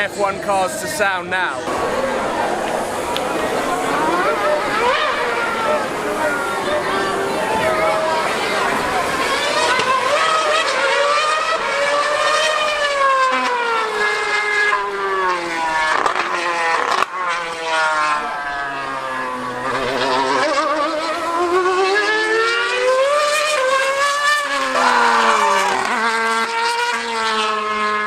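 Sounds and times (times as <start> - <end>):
racing car engine screaming: 1.6 - 28.0.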